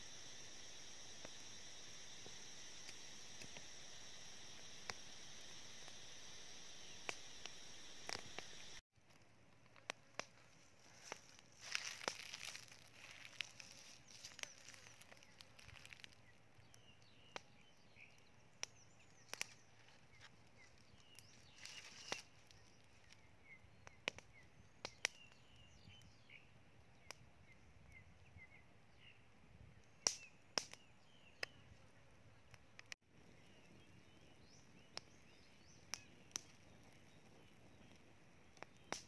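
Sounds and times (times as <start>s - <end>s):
wood fire crackling and popping: 0.0s - 26.0s, 32.6s - 39.0s.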